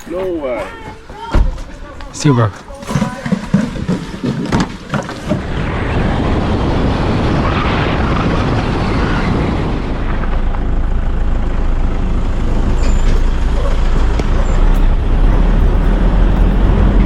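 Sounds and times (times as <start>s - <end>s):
vehicle engine and road noise: 0.0s - 17.0s
wind buffeting microphone: 2.8s - 17.0s.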